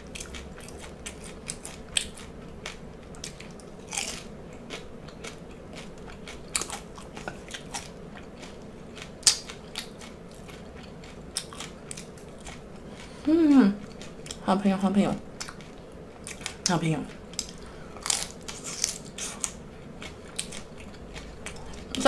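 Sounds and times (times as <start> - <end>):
chewing crunchy fried shrimp: 0.0 - 14.5, 15.2 - 22.0.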